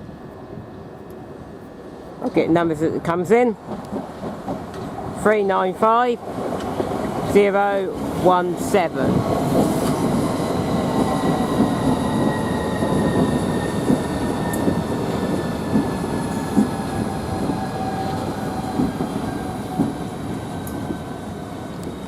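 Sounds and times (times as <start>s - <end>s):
electric train rumble and whine: 0.0s - 22.0s.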